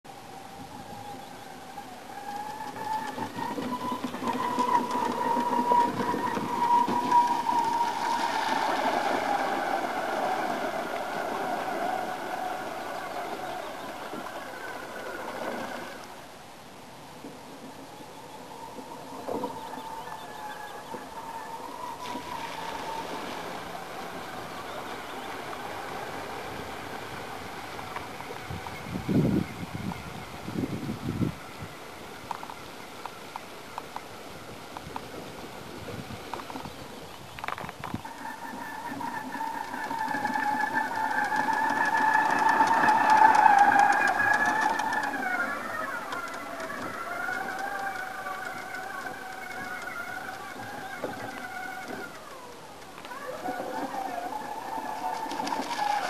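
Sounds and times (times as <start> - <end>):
faint motor whine: 0.1 - 56.0
water churning and sloshing: 1.5 - 16.4, 17.6 - 29.1, 34.2 - 56.0.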